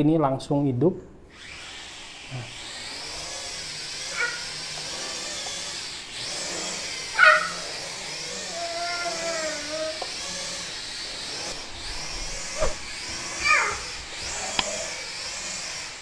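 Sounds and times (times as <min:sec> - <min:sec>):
toy drone motors whining: 0:01.3 - 0:16.0.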